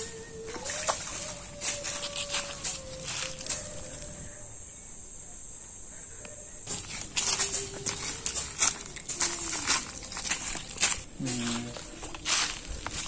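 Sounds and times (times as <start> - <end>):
dry leaves crackling and rustling: 0.0 - 4.4, 6.6 - 13.0
high insect drone: 0.0 - 13.0.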